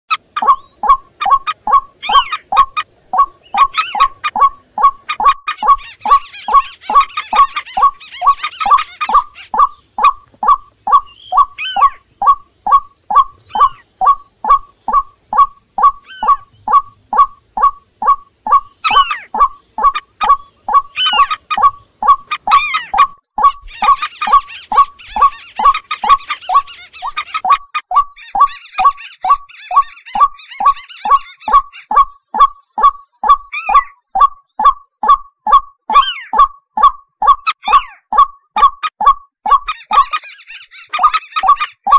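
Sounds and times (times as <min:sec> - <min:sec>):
higher chattering bird calls: 0:00.1 - 0:41.9
repeating bird call: 0:00.1 - 0:41.9.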